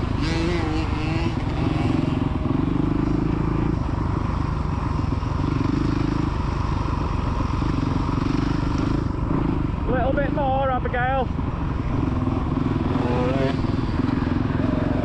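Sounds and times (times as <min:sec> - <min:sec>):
dirt bike engine revving: 0:00.0 - 0:04.0, 0:05.0 - 0:15.0.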